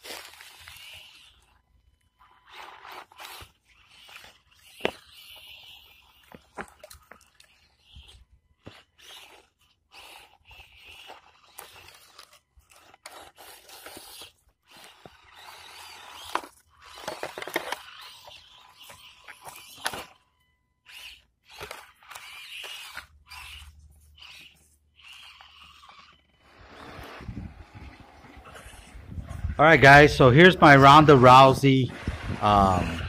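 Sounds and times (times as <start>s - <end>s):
toy truck crunching over ground: 0.0s - 33.0s.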